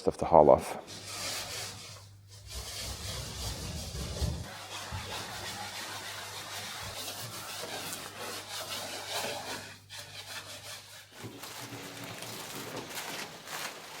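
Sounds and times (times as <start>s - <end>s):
scraping strokes on boat hull: 0.8s - 14.0s.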